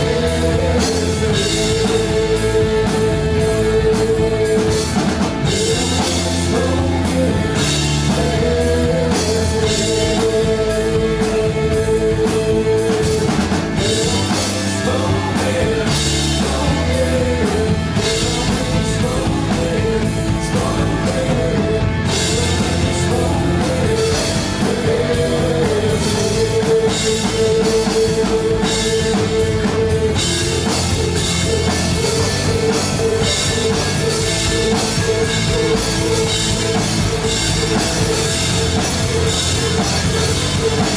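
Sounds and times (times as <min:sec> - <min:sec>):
bass guitar: 0:00.0 - 0:40.9
drum kit: 0:00.0 - 0:40.9
electric guitars: 0:00.0 - 0:40.9
lead vocal singing: 0:00.0 - 0:40.9.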